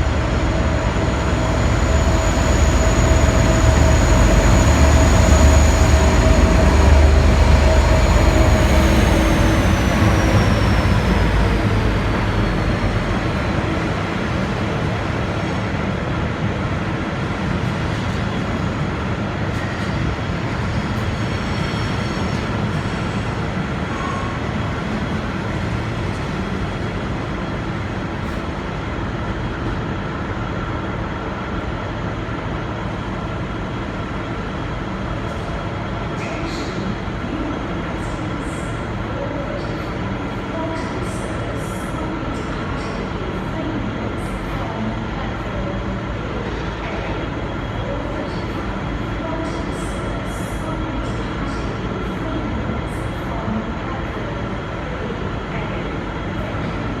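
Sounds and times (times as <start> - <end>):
diesel locomotive engine whine: 0.0 - 57.0
train rolling rushing noise: 0.0 - 57.0.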